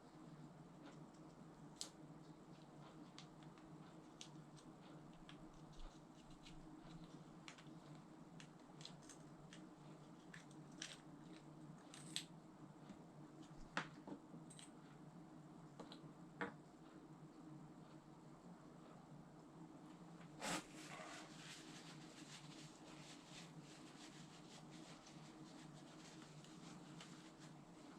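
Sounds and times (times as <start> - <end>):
low steady hum: 0.0 - 27.9.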